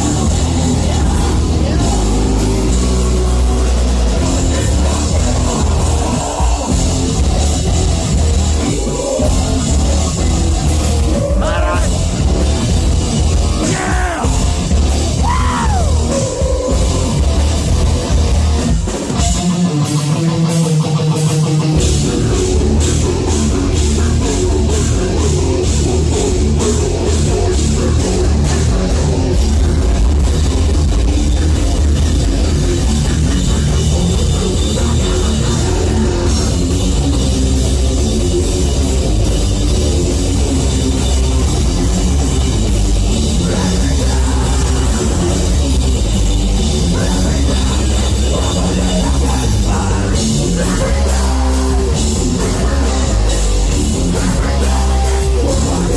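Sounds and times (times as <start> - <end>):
driving drums: 0.0 - 55.9
heavy metal band playing: 0.0 - 55.9.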